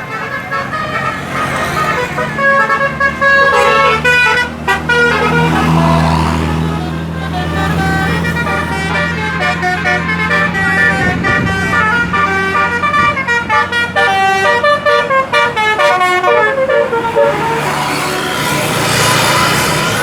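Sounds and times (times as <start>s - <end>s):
bus engine running: 0.0s - 20.0s
multi-tone bus horn melody: 0.0s - 20.0s.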